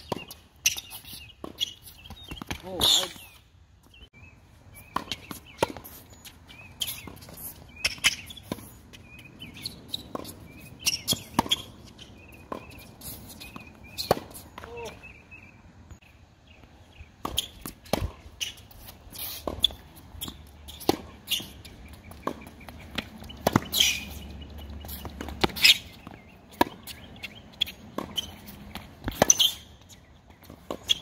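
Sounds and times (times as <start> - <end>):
sneaker squeaks: 0.0 - 4.1, 4.7 - 15.5, 17.2 - 31.0.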